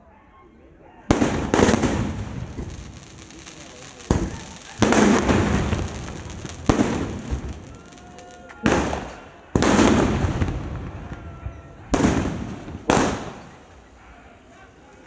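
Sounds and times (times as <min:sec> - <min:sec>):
firework booms: 0:01.1 - 0:13.7.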